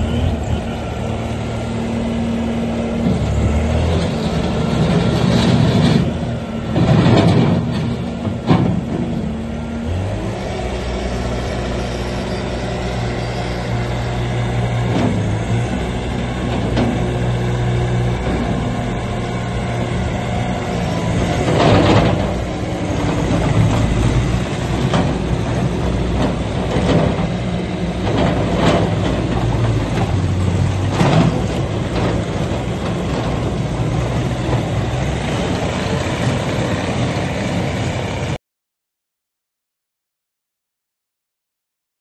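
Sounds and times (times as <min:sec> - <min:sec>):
diesel engine running: 0:00.0 - 0:38.4.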